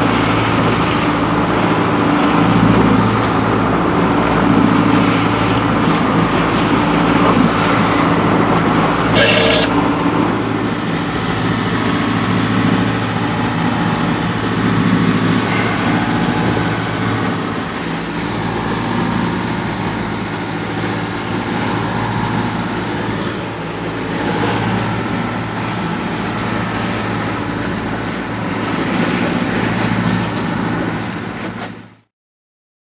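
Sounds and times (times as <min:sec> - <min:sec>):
boat engine humming: 0:00.0 - 0:32.0
water rushing against hull: 0:00.0 - 0:32.1
wind: 0:00.0 - 0:32.1.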